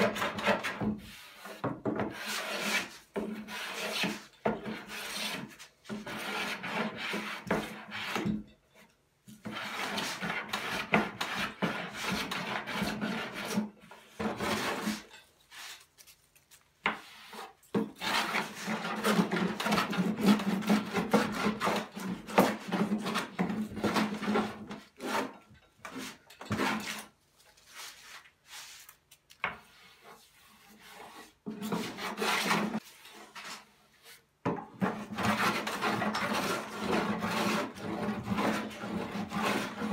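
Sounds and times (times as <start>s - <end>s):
hand plane shaving wood: 0.0s - 8.2s, 9.4s - 15.8s, 16.9s - 27.0s, 29.8s - 34.2s, 34.8s - 39.9s.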